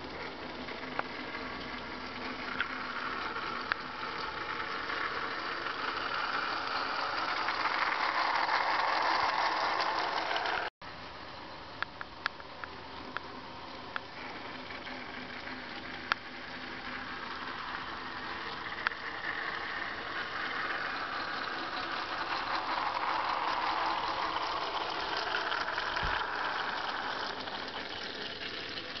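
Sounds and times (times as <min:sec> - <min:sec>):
model train whirring rattle: 0:00.0 - 0:10.7, 0:14.2 - 0:29.0.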